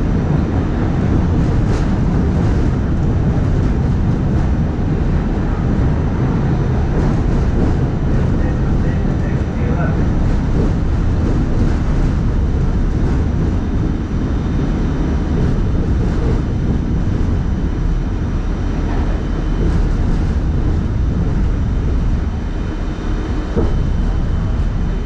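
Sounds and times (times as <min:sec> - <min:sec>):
train rumbling along tracks: 0:00.0 - 0:25.0.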